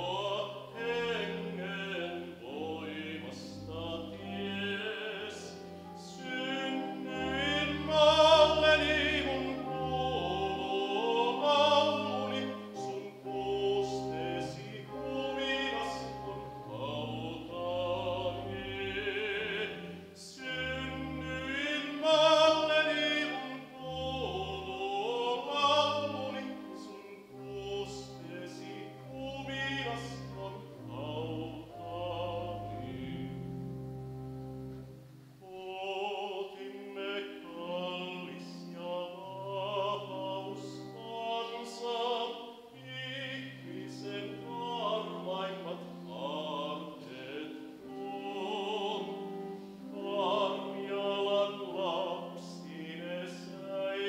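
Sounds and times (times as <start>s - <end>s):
man singing classically: 0.0s - 34.0s, 35.4s - 54.0s
pipe organ: 0.0s - 54.0s.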